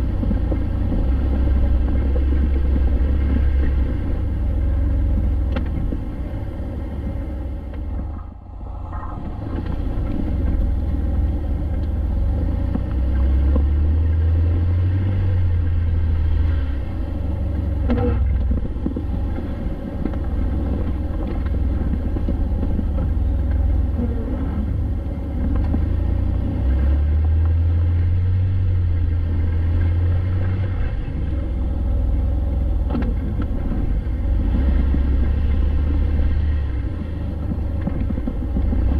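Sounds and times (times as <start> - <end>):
vehicle engine and tyres rumbling: 0.0 - 38.9.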